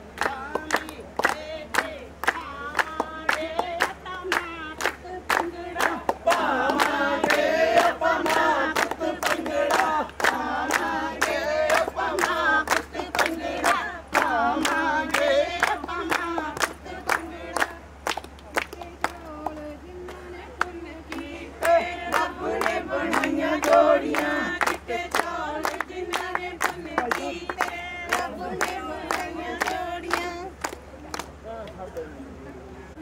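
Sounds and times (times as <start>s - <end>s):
group singing folk song: 0.0s - 30.6s
low steady hum: 0.0s - 33.0s.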